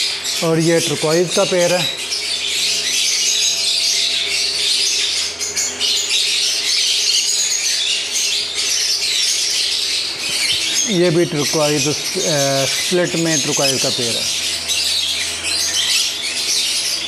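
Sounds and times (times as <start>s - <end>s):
parrots chattering and squawking: 0.0s - 17.0s.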